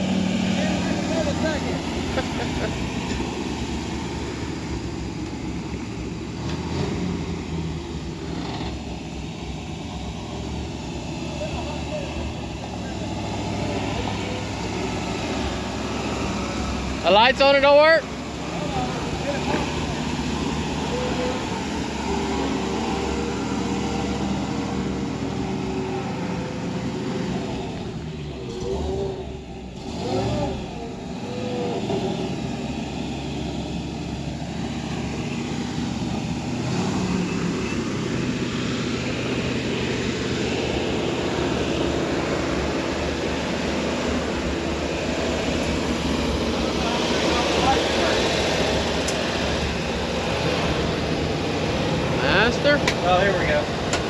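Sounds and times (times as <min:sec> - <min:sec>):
fire truck engine running: 0:00.0 - 0:54.0.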